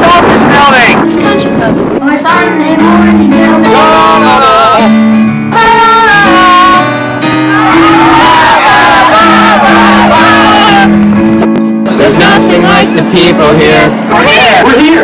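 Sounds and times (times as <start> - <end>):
sustained backing chords: 0.0 - 15.0
voices singing a melody: 0.0 - 15.0.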